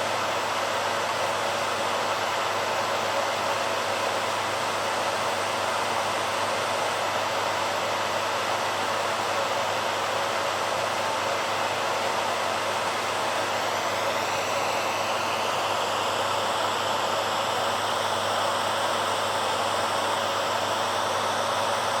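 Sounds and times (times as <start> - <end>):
hairdryer blowing: 0.0 - 22.0.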